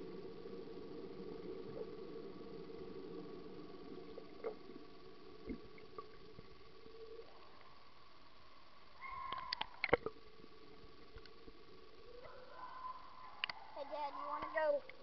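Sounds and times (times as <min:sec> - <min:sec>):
faint low underwater hum: 0:00.0 - 0:15.0.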